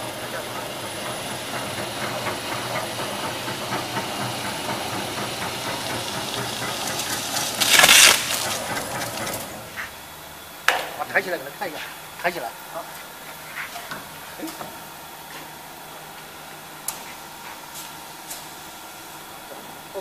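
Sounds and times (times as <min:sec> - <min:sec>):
machine rollers whirring: 0:00.0 - 0:20.0.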